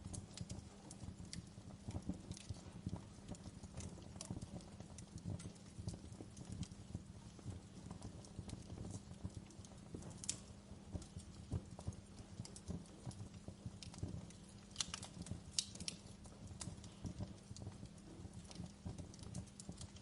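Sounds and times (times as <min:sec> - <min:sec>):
burning logs crackling and popping: 0:00.0 - 0:20.0
wood fire rumbling: 0:00.0 - 0:20.0.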